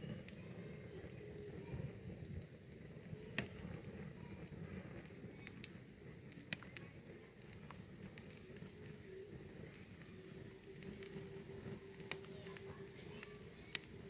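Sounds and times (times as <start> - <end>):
campfire crackling and popping: 0.0 - 14.0
faint steady hum: 0.0 - 14.0.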